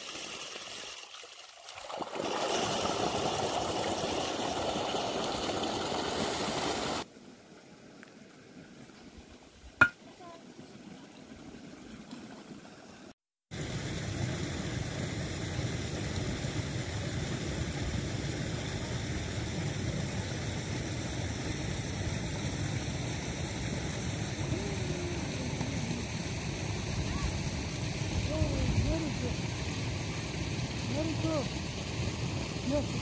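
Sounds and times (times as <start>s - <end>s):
water running in channel: 0.0s - 33.0s.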